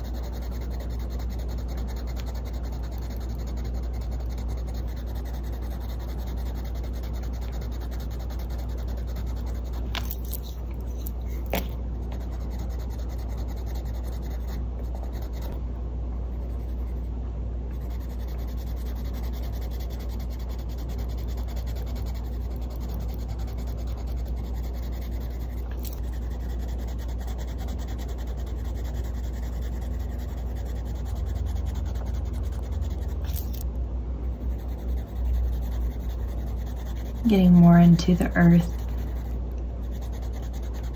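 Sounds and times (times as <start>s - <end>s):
pencil scratching on paper: 0.0s - 15.6s, 16.2s - 33.6s, 34.2s - 40.9s
sharp pencil ticks: 0.0s - 15.6s, 17.7s - 33.6s, 34.4s - 40.9s
low hum: 0.0s - 40.9s.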